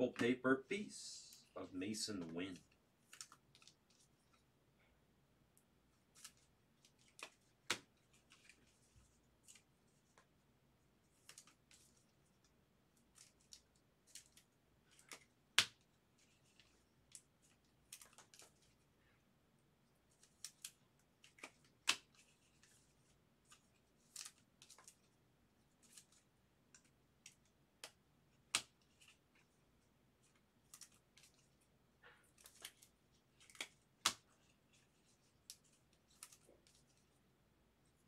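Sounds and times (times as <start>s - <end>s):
cards clicking and rustling: 1.3s - 4.4s, 6.0s - 10.3s, 11.1s - 18.9s, 20.1s - 25.2s, 25.8s - 37.2s.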